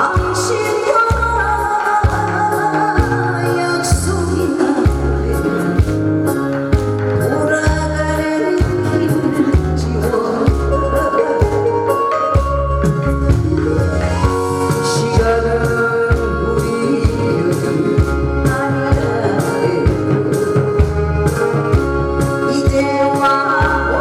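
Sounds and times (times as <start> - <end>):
trot song over sound system: 0.0 - 24.0.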